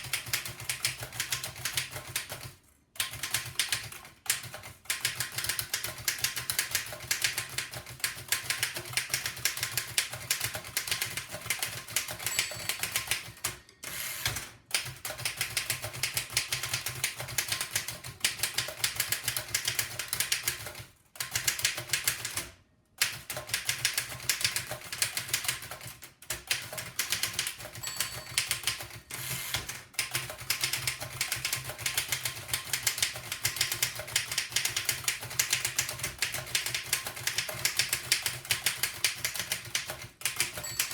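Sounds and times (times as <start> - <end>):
typewriter typing fast: 0.0 - 40.9.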